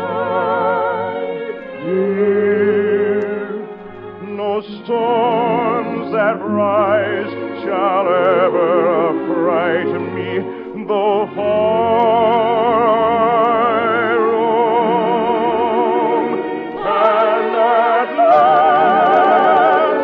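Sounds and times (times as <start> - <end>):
operatic singing with vibrato: 0.0 - 20.0
orchestral accompaniment: 0.0 - 20.0.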